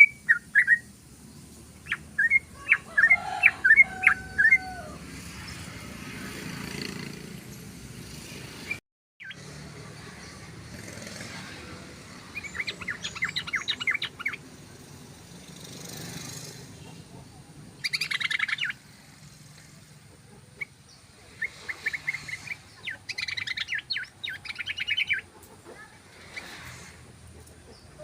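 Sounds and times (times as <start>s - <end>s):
bird singing rapid chattering song: 0.0s - 4.6s, 8.6s - 19.3s, 20.1s - 28.0s.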